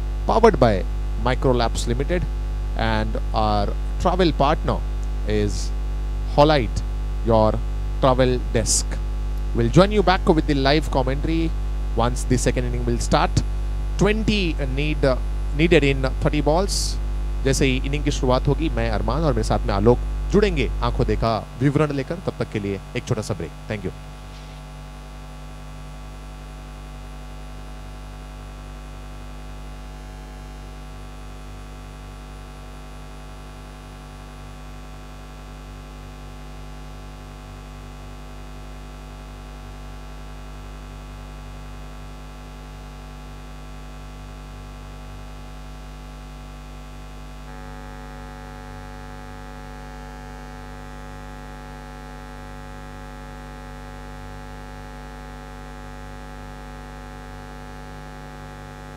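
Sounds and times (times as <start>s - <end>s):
electrical mains hum: 0.0s - 58.9s.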